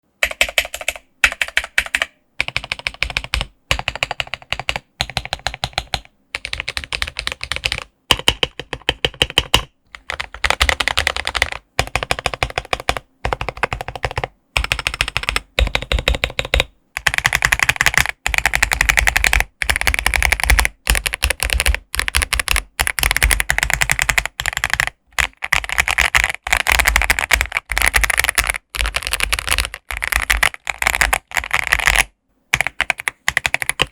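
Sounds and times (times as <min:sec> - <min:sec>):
mechanical keyboard typing: 0:00.2 - 0:33.9.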